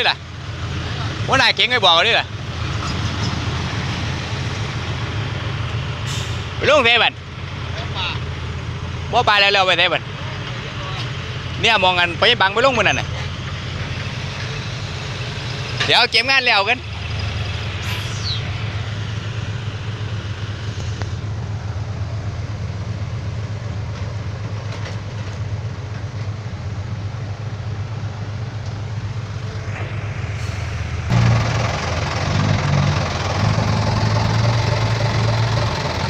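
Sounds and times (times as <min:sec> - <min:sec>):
truck engine running: 0:00.0 - 0:36.0.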